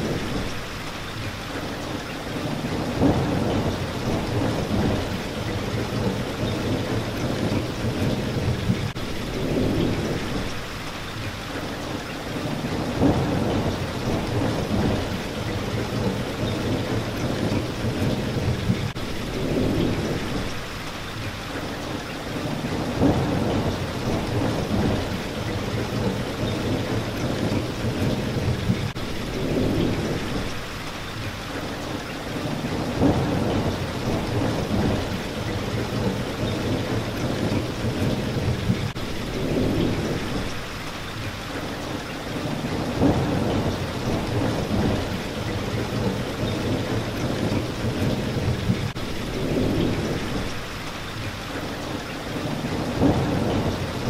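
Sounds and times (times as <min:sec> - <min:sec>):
rain hitting a window: 0:00.0 - 0:54.0
thunder rumbling: 0:02.4 - 0:10.7, 0:12.4 - 0:20.7, 0:22.4 - 0:30.7, 0:32.4 - 0:40.8, 0:42.3 - 0:50.8, 0:52.3 - 0:54.0.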